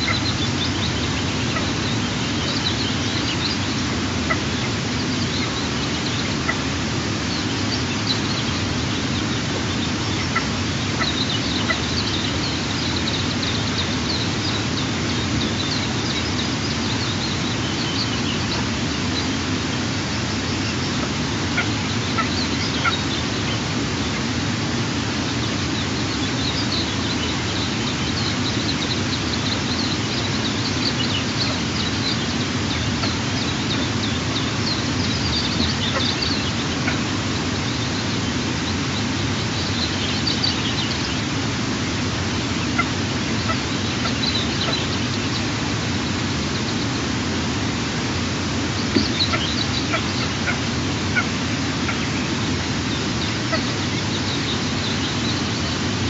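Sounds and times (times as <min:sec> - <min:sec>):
low rushing background noise: 0:00.0 - 0:56.0.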